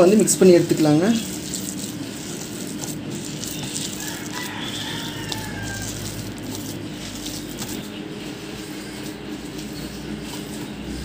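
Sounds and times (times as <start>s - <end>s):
hand kneading wet paste: 0.0s - 11.0s
steady low hum: 0.0s - 11.0s.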